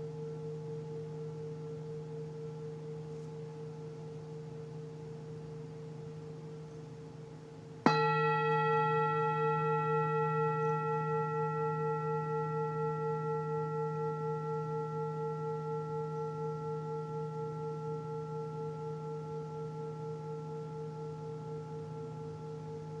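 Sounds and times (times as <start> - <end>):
singing bowl ringing: 0.0 - 7.0, 7.8 - 23.0.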